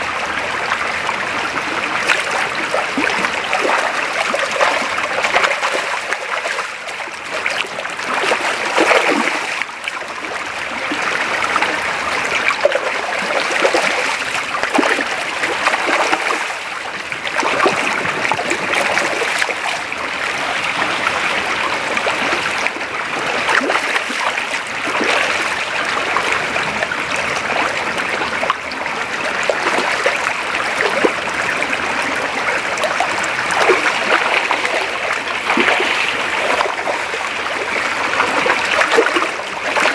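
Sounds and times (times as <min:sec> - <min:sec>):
creek babbling water: 0:00.0 - 0:39.9
small water splashes: 0:00.0 - 0:39.9.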